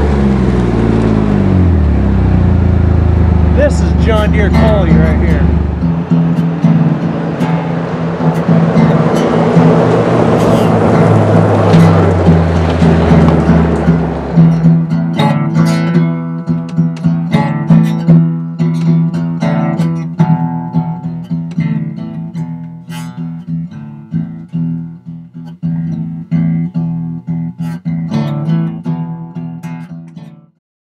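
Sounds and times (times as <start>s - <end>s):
acoustic guitar music: 0.0s - 30.6s.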